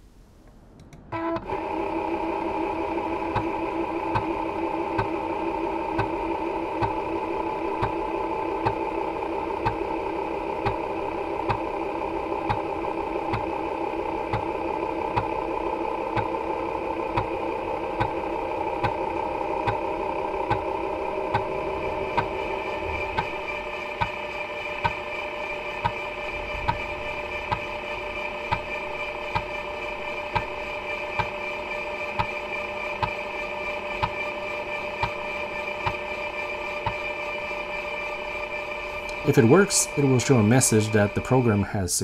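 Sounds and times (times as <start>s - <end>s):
floppy drive humming: 0.0s - 42.0s.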